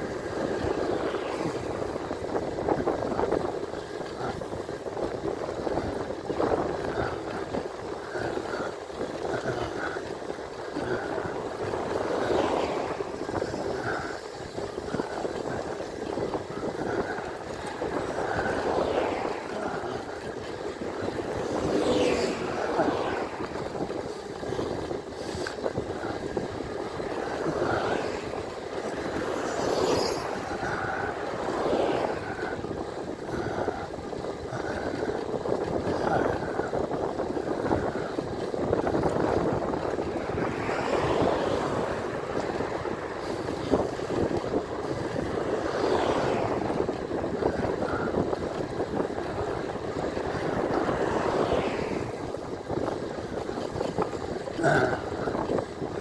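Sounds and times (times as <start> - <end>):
tyre noise on road: 0.0 - 56.0
wind buffeting microphone: 0.0 - 56.0.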